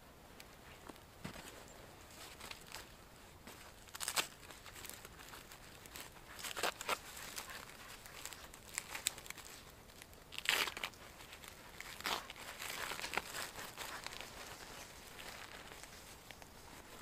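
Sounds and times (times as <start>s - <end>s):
straps rasping and crinkling: 0.6s - 17.0s.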